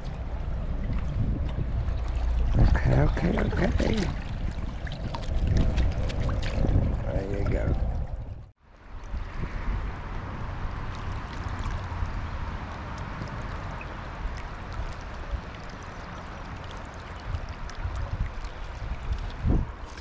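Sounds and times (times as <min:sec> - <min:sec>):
fast-flowing river: 0:00.0 - 0:07.7, 0:08.8 - 0:20.0
low rumbling: 0:00.0 - 0:20.0.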